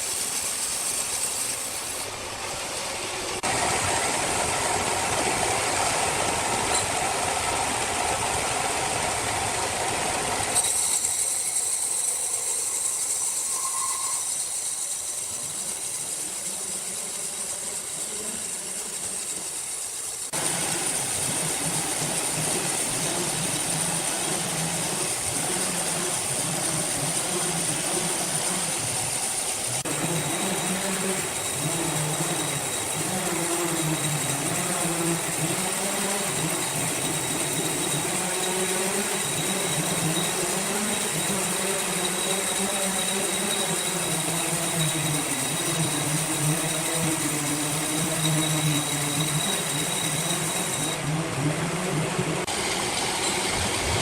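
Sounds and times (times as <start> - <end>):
sawmill machinery whining: 0.0 - 54.0.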